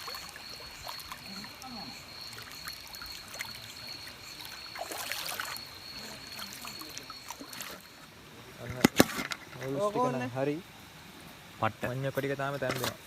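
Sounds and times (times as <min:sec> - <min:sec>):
river water trickling: 0:00.0 - 0:12.8.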